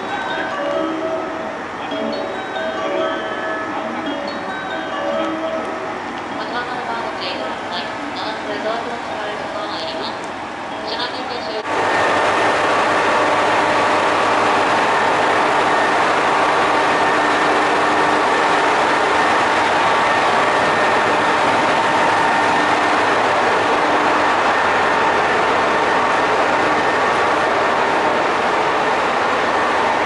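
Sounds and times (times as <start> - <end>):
train equipment humming: 0.0 - 30.0.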